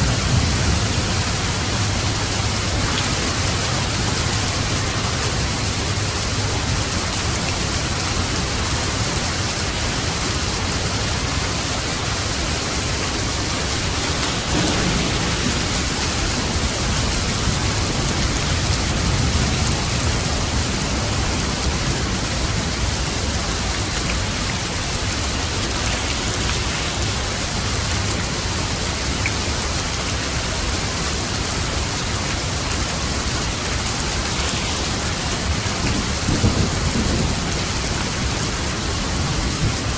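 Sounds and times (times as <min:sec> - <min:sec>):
thunder rumbling: 0:00.0 - 0:10.2, 0:11.0 - 0:29.1, 0:32.8 - 0:39.9
heavy rain: 0:00.0 - 0:39.9.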